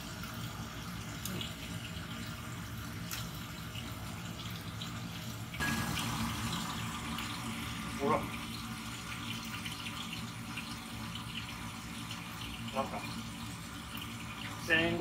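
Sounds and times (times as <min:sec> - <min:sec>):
offal sizzling in hot oil: 0:00.0 - 0:15.0.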